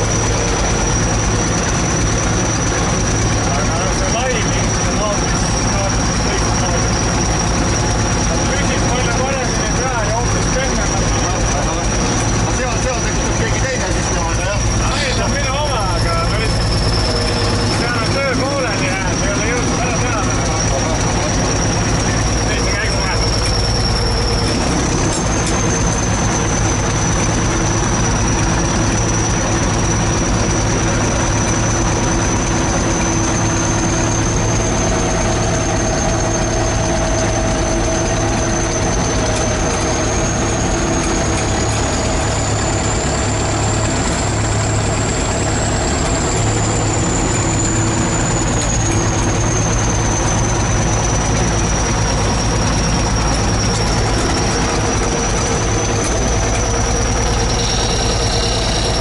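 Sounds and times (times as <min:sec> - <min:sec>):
bulldozer diesel engine running: 0:00.0 - 0:59.0
thin high whine: 0:00.0 - 0:59.0.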